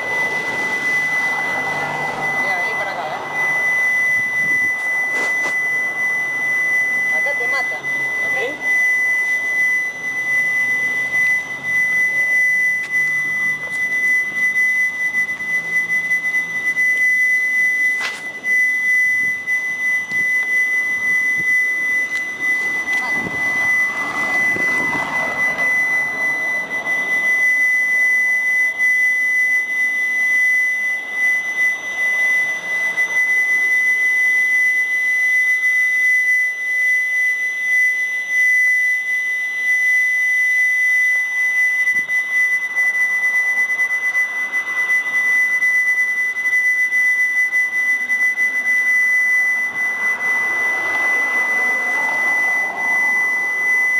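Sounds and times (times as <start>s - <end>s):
loud high-pitched tone: 0.0s - 53.9s.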